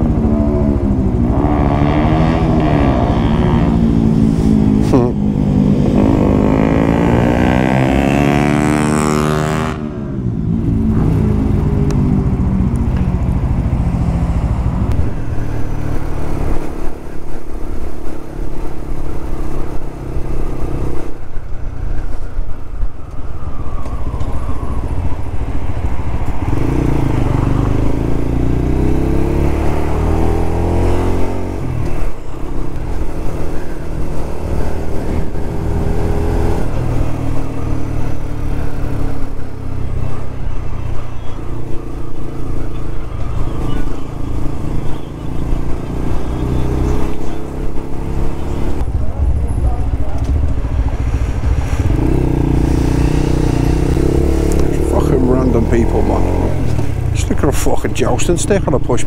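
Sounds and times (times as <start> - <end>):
motorcycle engine accelerating: 0.0 - 58.9.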